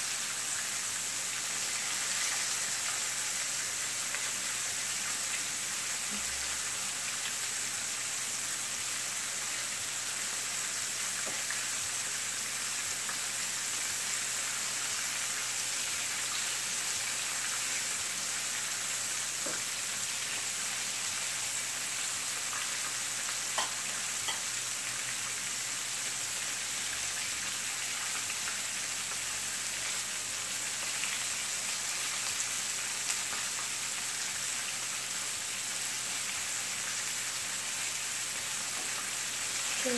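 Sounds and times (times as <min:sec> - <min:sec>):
fish sizzling in frying pan: 0:00.0 - 0:39.9.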